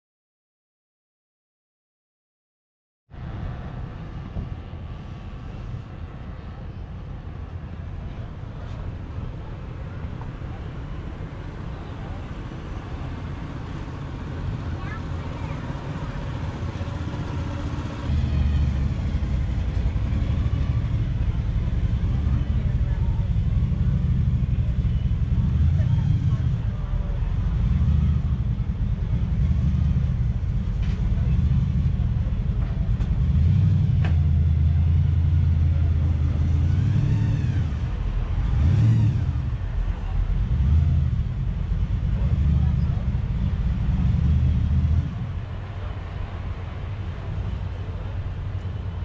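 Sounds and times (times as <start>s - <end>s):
car engines rumbling: 3.1s - 49.0s
vehicles driving past: 3.1s - 49.0s.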